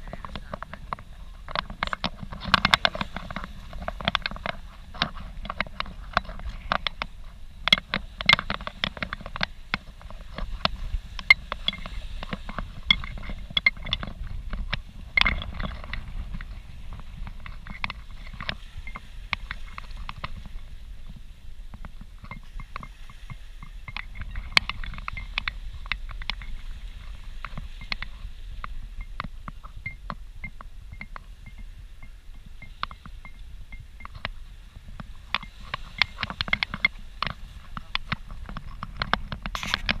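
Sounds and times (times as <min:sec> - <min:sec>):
sharp clicks and crackles: 0:00.0 - 0:40.0
wind rumbling on microphone: 0:00.0 - 0:40.0.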